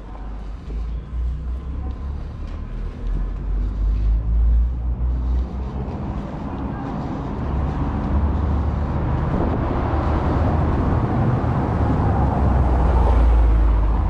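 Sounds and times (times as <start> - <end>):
car driving on cobblestones: 0.0 - 14.0.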